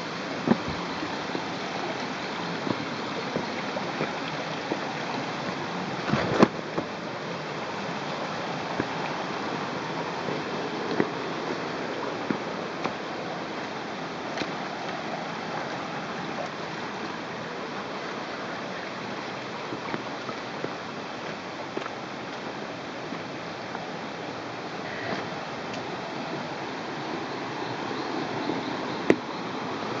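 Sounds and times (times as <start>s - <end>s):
river water over rocks: 0.0s - 30.0s.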